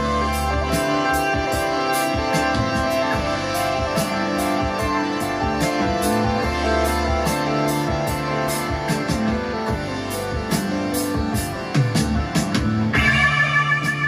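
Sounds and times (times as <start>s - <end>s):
music with guitar and drums: 0.0s - 14.0s.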